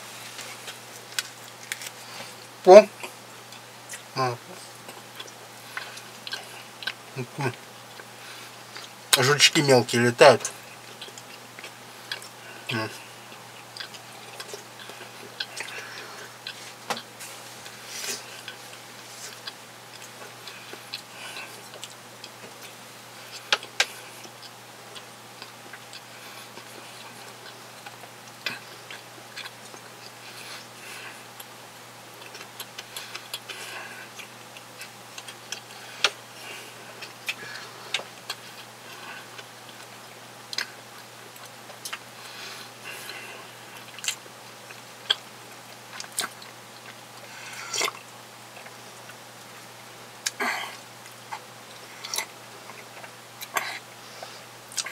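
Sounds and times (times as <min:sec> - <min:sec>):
steady low hum: 0:00.0 - 0:54.9
man chewing with wet mouth clicks: 0:04.7 - 0:09.0, 0:10.5 - 0:42.1, 0:42.9 - 0:50.4, 0:51.0 - 0:54.9.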